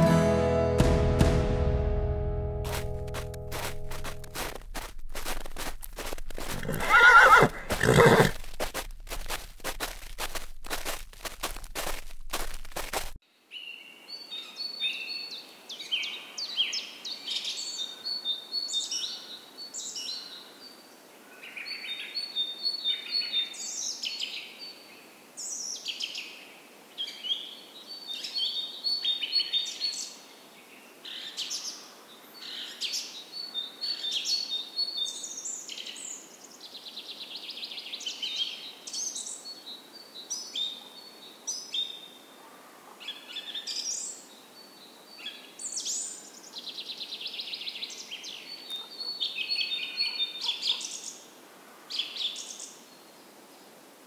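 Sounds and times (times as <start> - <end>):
songbirds chirping: 3.6 - 26.4, 27.0 - 53.8.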